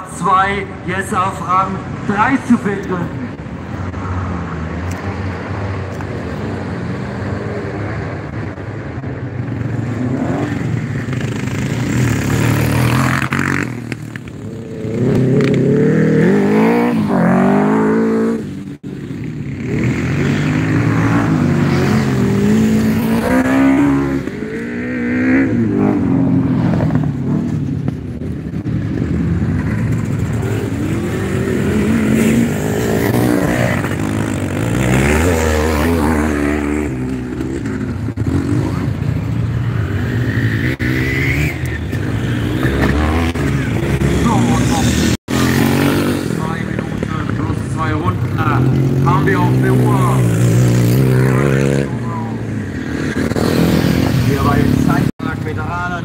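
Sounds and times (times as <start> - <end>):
racing motorcycle engines revving: 0.0 - 56.0.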